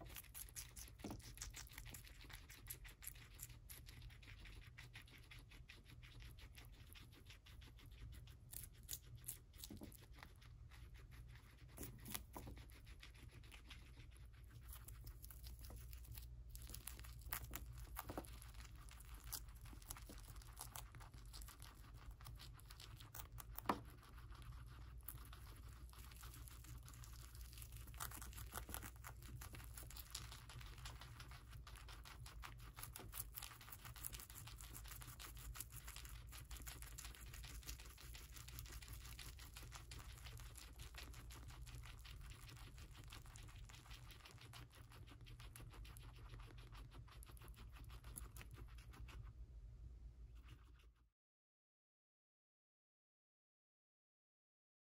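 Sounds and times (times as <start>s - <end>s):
guinea pigs chewing celery: 0.0s - 51.0s.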